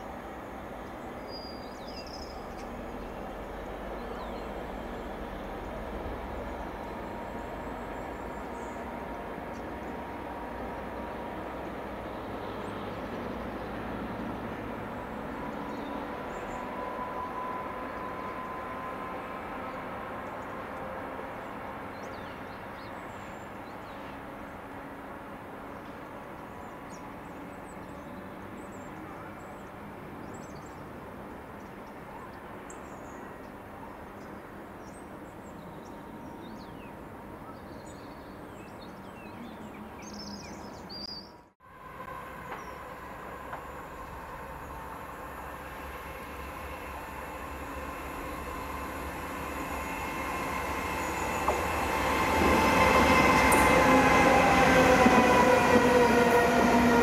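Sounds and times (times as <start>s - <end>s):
diesel locomotive engines rumbling: 0.0s - 40.9s, 41.6s - 57.0s.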